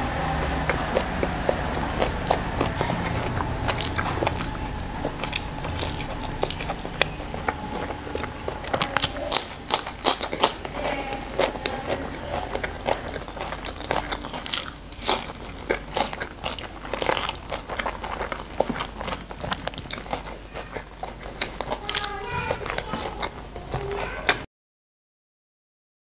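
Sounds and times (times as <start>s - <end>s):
crunching cucumber bites: 0.0s - 24.4s
wet chewing and mouth clicks: 0.0s - 24.4s.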